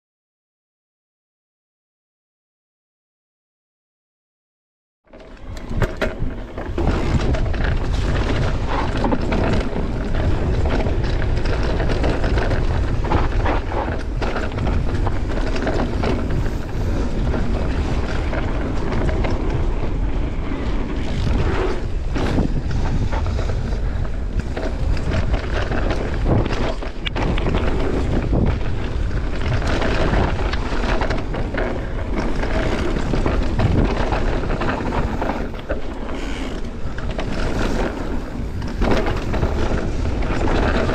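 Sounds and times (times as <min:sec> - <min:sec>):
bike tyres knocking and rattling: 0:05.1 - 0:40.9
wind buffeting microphone: 0:05.3 - 0:40.9.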